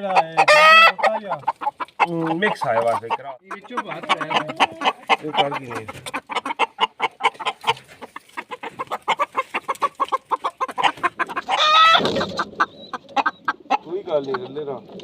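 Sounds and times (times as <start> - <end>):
chicken squawk: 0.0 - 14.5
chickens clucking: 0.0 - 15.0.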